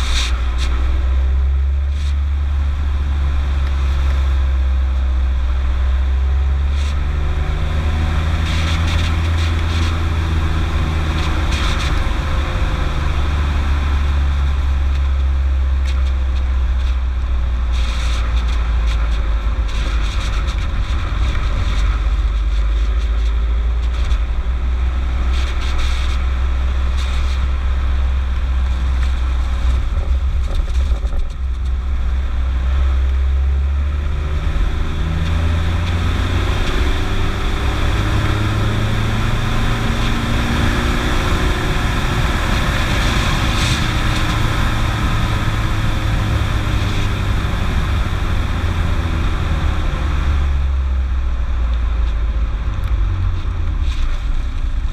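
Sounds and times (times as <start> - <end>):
diesel car engine drone: 0.0 - 54.9.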